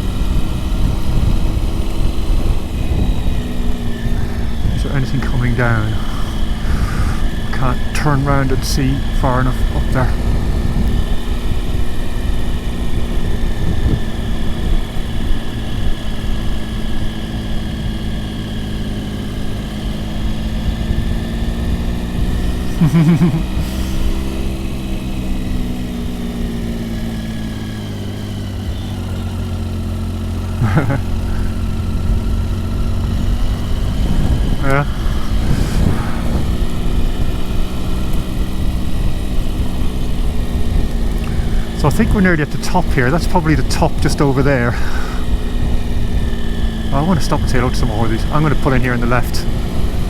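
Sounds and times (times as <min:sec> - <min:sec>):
motorcycle engine running: 0:00.0 - 0:50.0
wind and road noise: 0:00.0 - 0:50.0.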